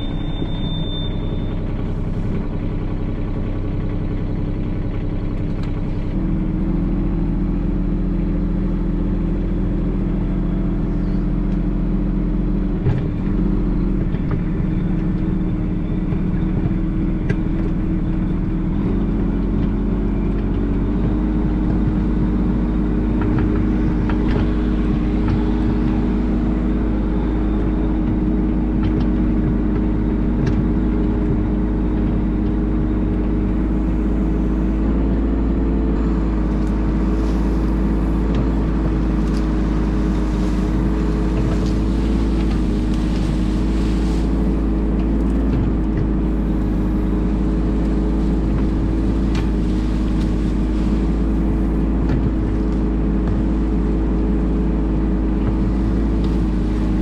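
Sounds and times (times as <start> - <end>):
mini excavator diesel engine: 0.0 - 57.0.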